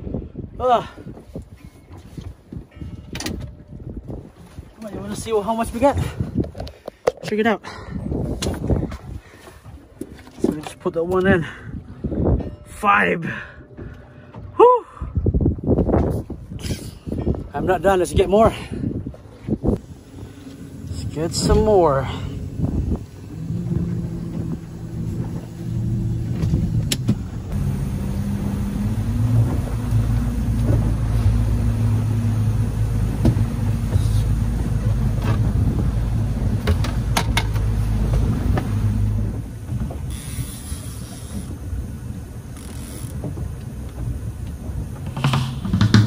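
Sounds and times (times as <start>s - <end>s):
boat engine running: 1.1s - 46.0s.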